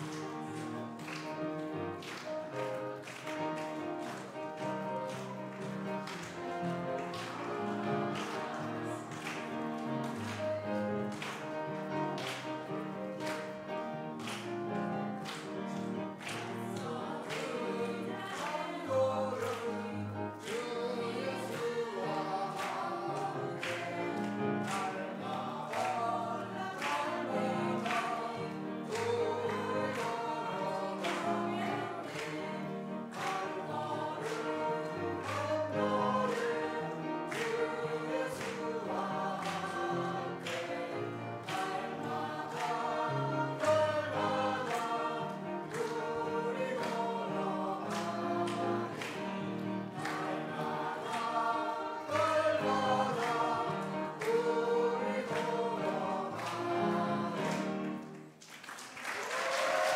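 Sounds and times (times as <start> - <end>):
group singing a hymn: 0.0 - 58.3.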